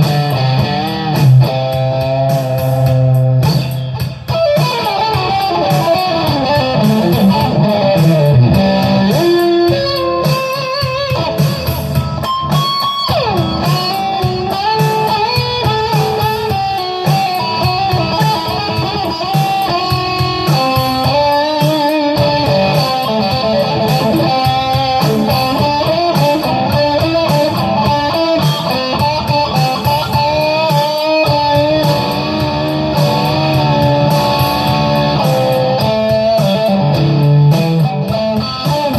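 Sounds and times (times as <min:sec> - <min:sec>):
electric guitar lead lines: 0:00.0 - 0:38.9.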